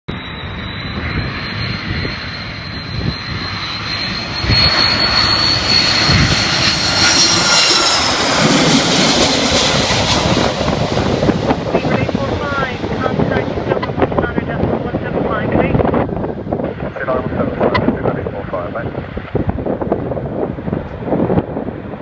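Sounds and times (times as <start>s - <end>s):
jet airliner engine noise: 0.1s - 22.0s.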